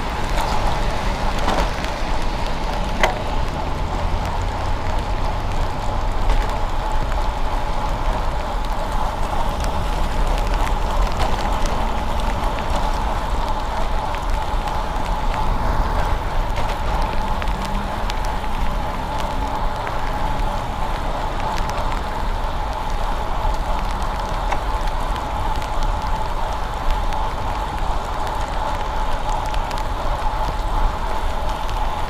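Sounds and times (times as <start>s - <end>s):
tyres hissing on wet road: 0.0s - 32.0s
wind rumble on microphone: 0.0s - 32.0s.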